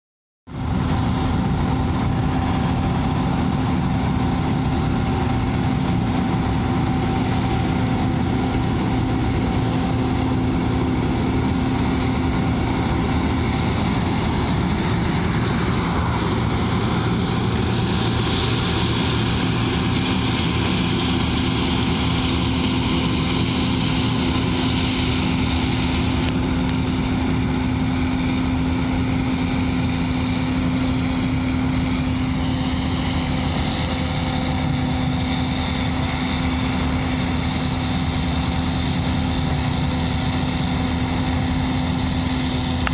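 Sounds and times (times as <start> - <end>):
harvester machinery drone: 0.5 - 42.9.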